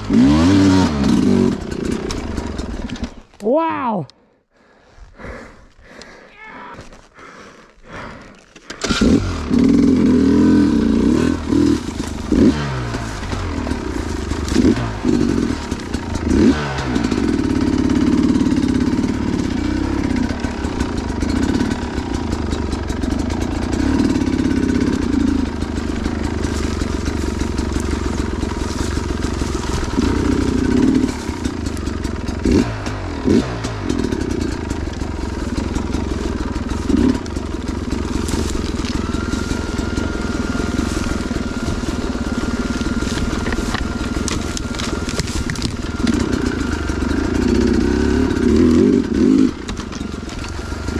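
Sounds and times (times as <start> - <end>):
dirt bike engine revving: 0.0 - 3.3, 8.0 - 50.9.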